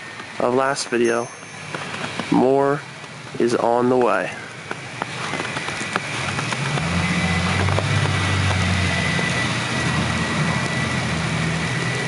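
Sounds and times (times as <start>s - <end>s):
low engine hum: 0.0s - 12.0s
thin steady whine: 0.0s - 12.0s.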